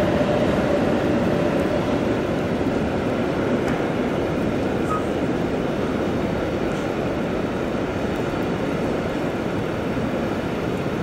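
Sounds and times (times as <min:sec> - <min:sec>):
freight train on steel bridge: 0:00.0 - 0:11.0.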